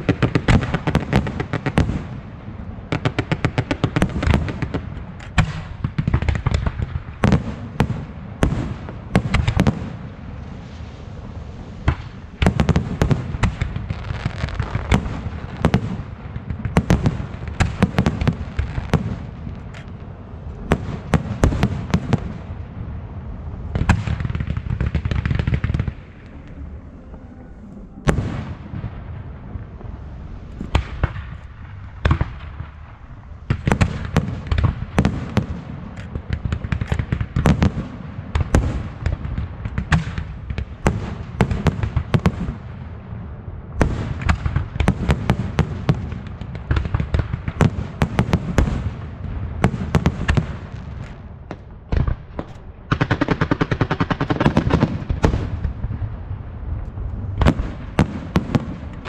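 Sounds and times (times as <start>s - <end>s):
rapid fireworks rattle: 0.0s - 22.5s, 23.7s - 42.7s, 43.8s - 59.0s
fireworks bangs and crackles: 0.0s - 59.0s.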